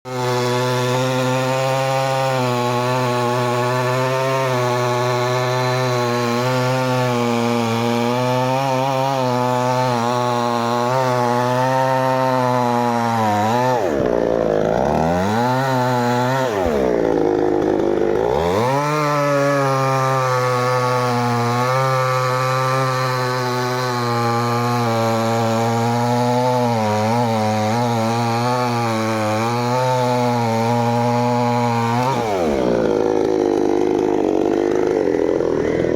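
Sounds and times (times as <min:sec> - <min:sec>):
chainsaw cutting wood: 0:00.1 - 0:35.9.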